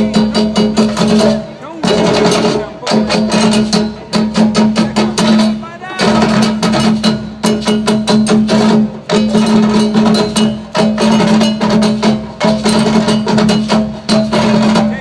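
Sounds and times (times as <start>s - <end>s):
fast drum rhythm: 0.0s - 15.0s.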